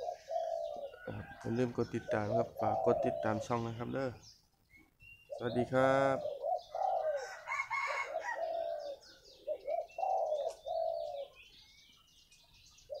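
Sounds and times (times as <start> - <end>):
dove cooing: 0.0 - 4.3, 5.3 - 11.6, 12.6 - 13.0
small birds chirping: 0.0 - 13.0.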